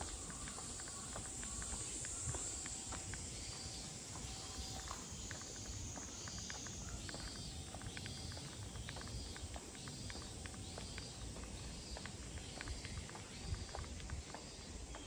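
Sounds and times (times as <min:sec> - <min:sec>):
footsteps on pavement: 0:00.0 - 0:15.0.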